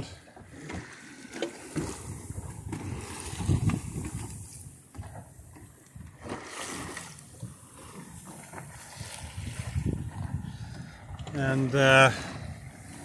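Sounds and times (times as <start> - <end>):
water splashing along boat hull: 0.0 - 13.0.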